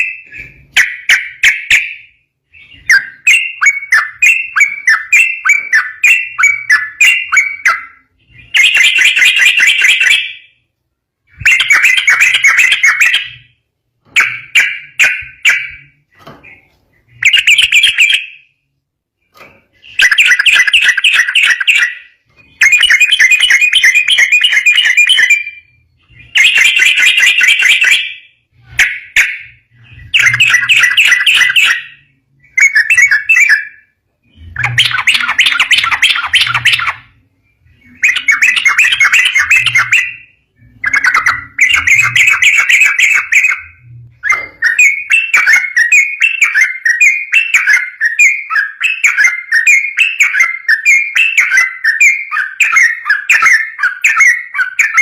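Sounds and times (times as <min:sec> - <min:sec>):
bird chattering song: 0:00.0 - 0:18.6, 0:19.2 - 0:55.0.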